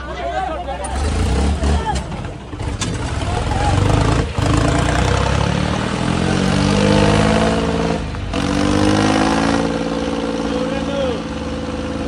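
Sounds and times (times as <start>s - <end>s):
tractor engine running hard: 0.6s - 12.0s.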